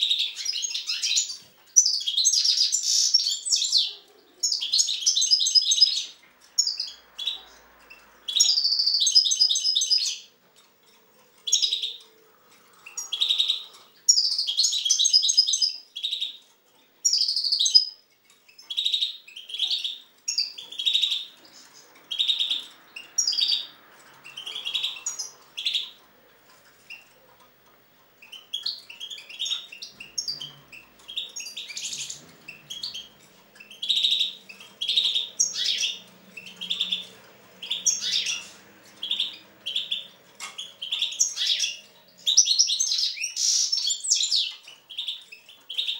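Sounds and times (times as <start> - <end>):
finch twittering song: 0.0 - 45.9.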